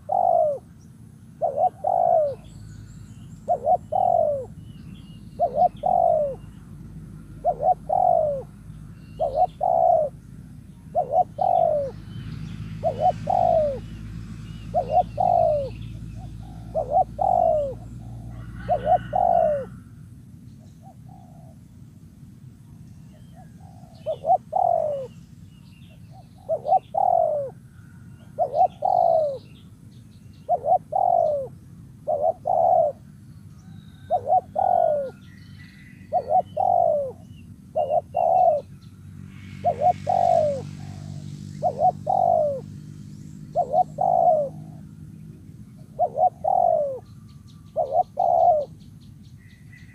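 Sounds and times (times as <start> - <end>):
dove cooing: 0.0 - 2.6, 3.4 - 20.1, 20.8 - 21.6, 23.1 - 25.2, 25.8 - 29.6, 30.4 - 38.7, 39.3 - 42.8, 43.4 - 48.8.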